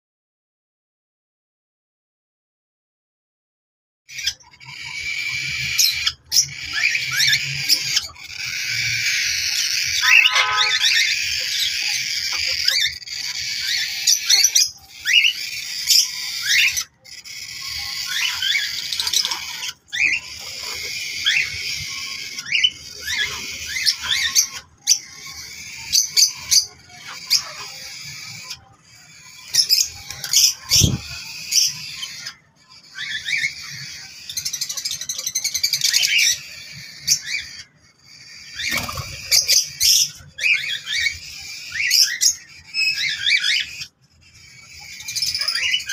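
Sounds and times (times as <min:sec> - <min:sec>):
parrots chattering and screeching: 0:04.1 - 0:45.9.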